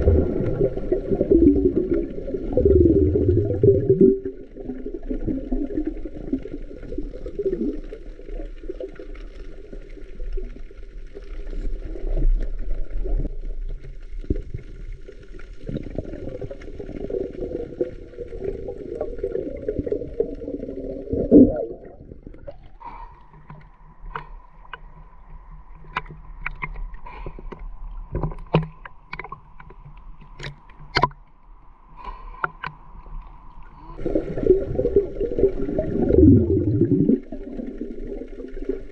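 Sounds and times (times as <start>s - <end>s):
underwater water churning: 0.0s - 31.2s, 32.0s - 38.9s.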